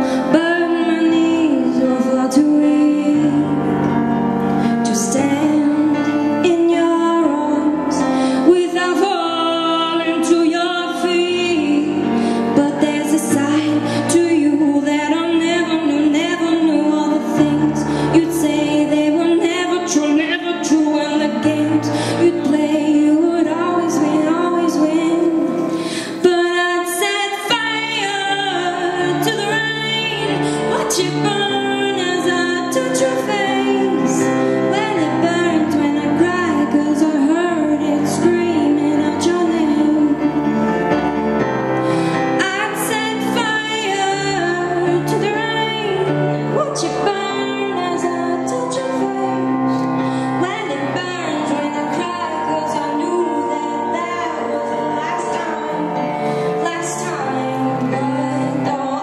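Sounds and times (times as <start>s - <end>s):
woman singing with vibrato: 0.0s - 40.7s, 42.0s - 59.0s
sustained instrumental accompaniment: 0.0s - 59.0s.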